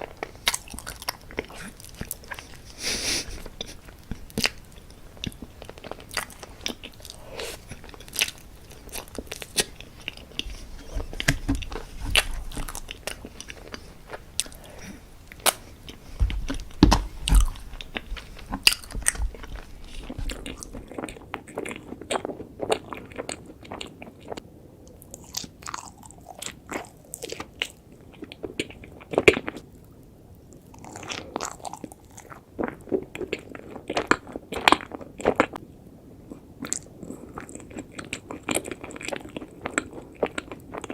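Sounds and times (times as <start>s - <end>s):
pastry being bitten and chewed: 0.0s - 24.4s, 25.0s - 29.6s, 30.5s - 35.6s, 36.3s - 40.9s.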